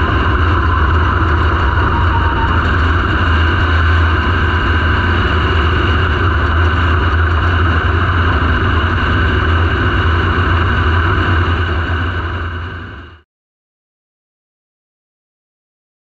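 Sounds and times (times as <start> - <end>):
race car engine running: 0.0 - 13.2.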